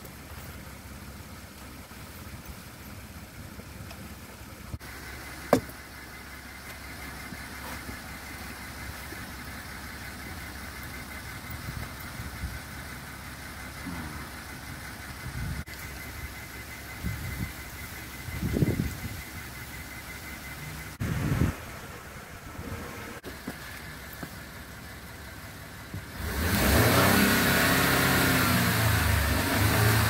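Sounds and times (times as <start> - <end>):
pickup engine idling: 0.0 - 26.9.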